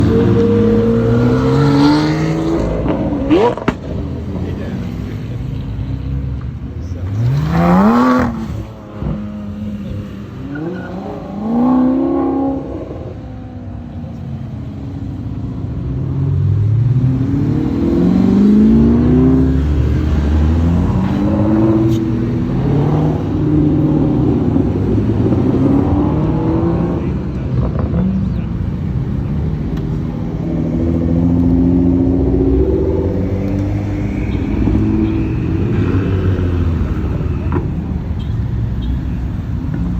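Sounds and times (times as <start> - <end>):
car engines accelerating: 0.0 - 39.9.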